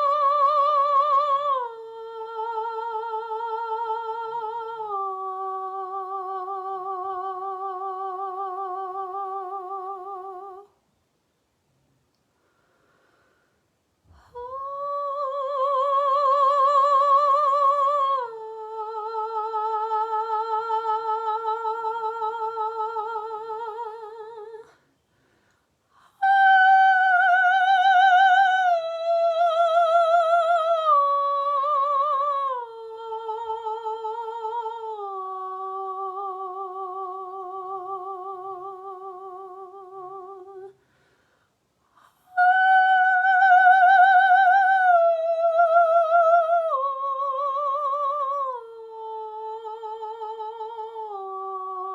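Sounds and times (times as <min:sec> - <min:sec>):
woman singing wordless notes: 0:00.0 - 0:10.8, 0:14.1 - 0:24.9, 0:26.0 - 0:40.8, 0:42.0 - 0:51.9.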